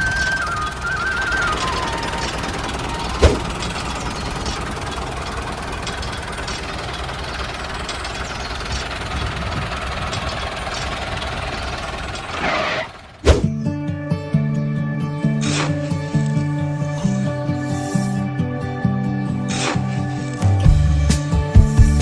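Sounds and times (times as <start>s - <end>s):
small engine running: 0.0s - 13.4s, 15.3s - 18.3s, 19.5s - 22.0s.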